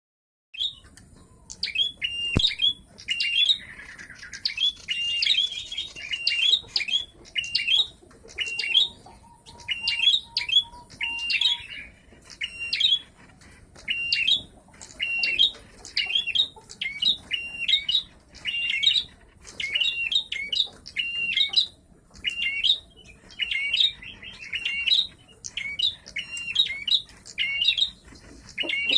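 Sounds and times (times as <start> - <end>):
songbird chirping: 0.6 - 28.9.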